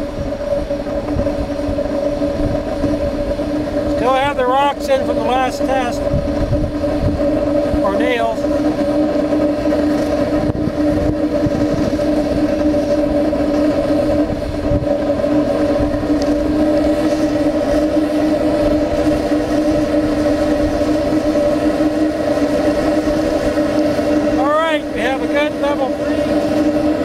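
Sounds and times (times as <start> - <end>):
gas burner roaring: 0.0 - 27.0.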